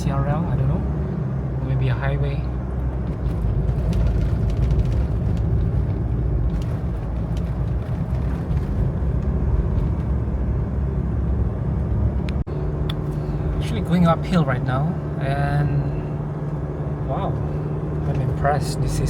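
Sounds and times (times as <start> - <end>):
diesel engine pulling uphill: 0.0 - 19.0
road and tyre noise: 0.0 - 19.0.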